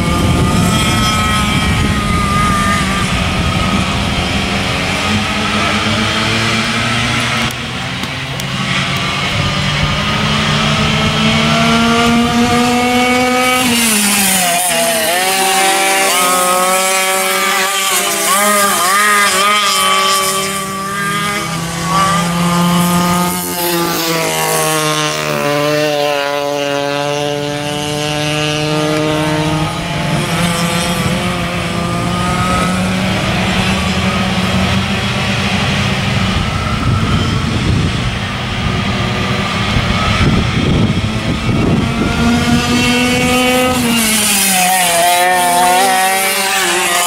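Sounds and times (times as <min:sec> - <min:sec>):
go-kart engines revving: 0:00.0 - 0:47.0.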